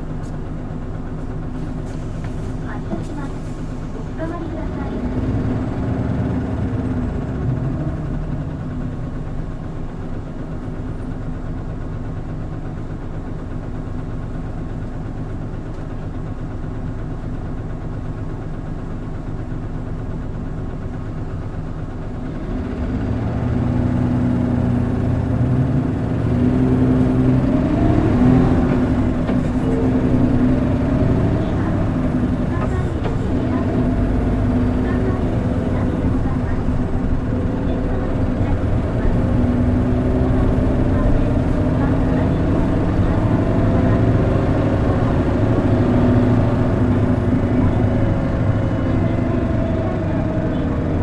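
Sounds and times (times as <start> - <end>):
bus engine running: 0.0 - 51.0.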